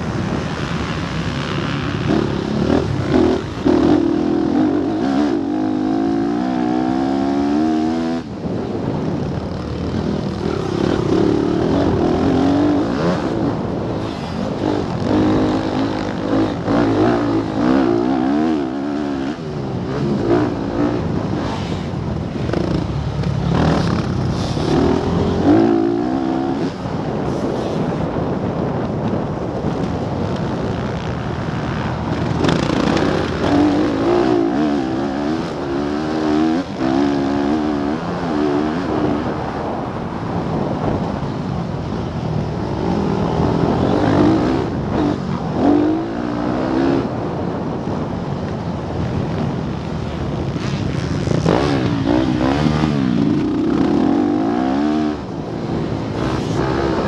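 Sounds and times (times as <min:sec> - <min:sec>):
motocross bike engine revving: 0:00.0 - 0:08.4, 0:09.5 - 0:27.9, 0:31.5 - 0:39.7, 0:42.6 - 0:47.2, 0:50.4 - 0:57.0.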